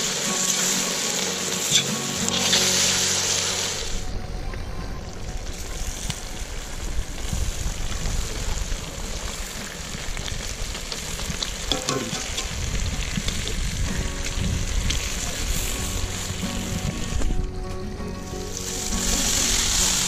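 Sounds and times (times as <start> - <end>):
food sizzling in a pot: 0.0 - 4.2, 5.3 - 17.4, 18.1 - 20.0.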